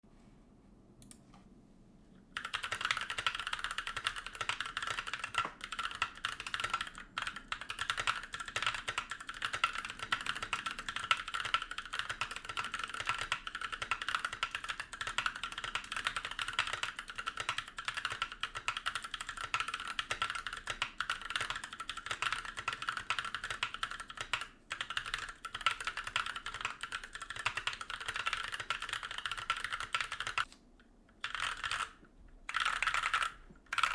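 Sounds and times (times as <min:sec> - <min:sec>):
mechanical keyboard typing: 0:02.4 - 0:30.6, 0:31.2 - 0:33.9.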